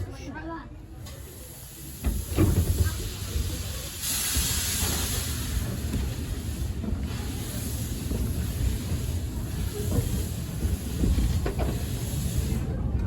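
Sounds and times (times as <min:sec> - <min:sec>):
steam locomotive hissing: 0:01.0 - 0:12.9.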